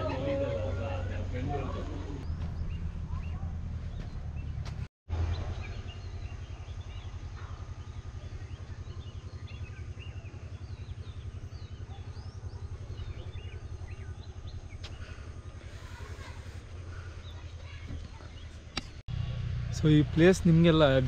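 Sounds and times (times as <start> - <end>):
birds chirping: 0.0 - 21.0
engine idling: 0.0 - 21.0.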